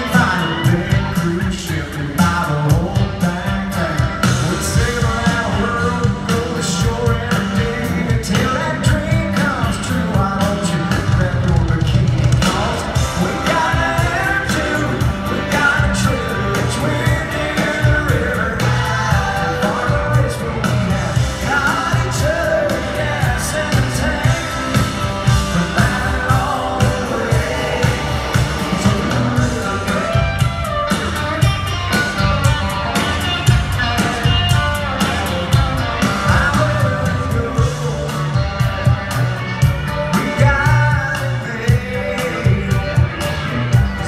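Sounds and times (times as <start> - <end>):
country rock band playing: 0.0 - 44.0
man singing lead vocal: 0.0 - 44.0.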